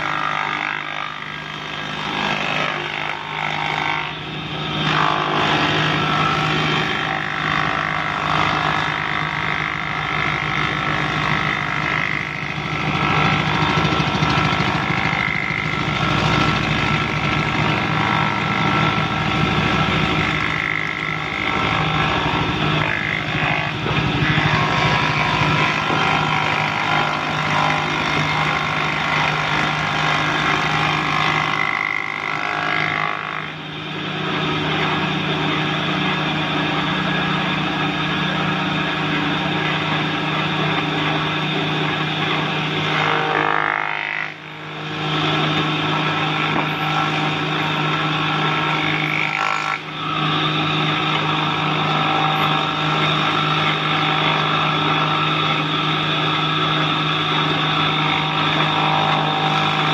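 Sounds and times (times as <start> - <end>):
electric wood planer running: 0.0 - 59.9.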